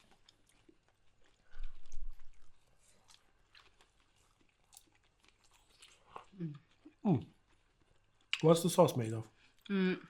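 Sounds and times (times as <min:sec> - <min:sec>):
close-up chewing crunches: 0:00.0 - 0:09.7.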